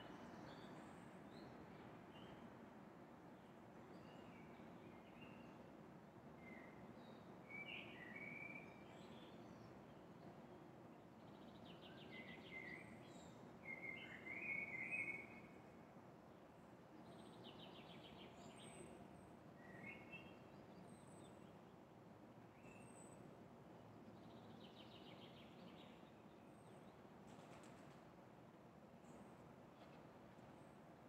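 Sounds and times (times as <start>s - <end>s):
low hum of city noise: 0.0s - 31.0s.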